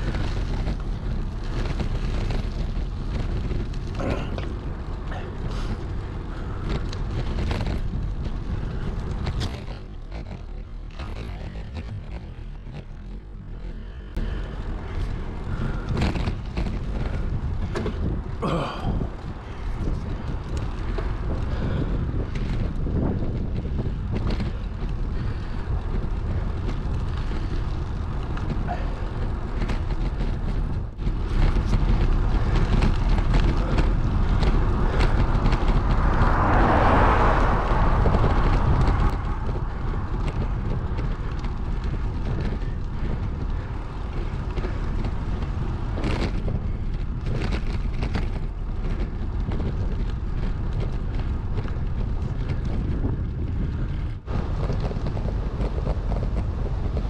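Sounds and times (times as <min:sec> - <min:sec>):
passing vehicle: 0:00.0 - 0:57.0
wind rushing over microphone: 0:00.0 - 0:57.0.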